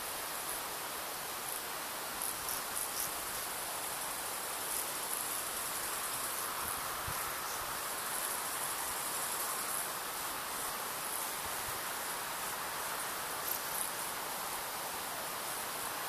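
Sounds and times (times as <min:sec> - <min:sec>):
insects chirping: 0:00.0 - 0:16.0
steady hiss: 0:00.0 - 0:16.0.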